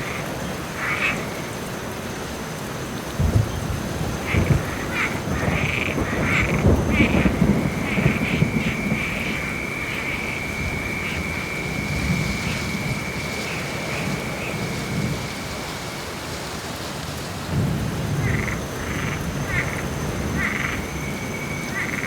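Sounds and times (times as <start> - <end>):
frogs croaking: 0.0 - 16.4, 17.5 - 22.0
steady rain: 0.0 - 22.0
low rolling thunder: 3.1 - 16.1, 17.3 - 22.0.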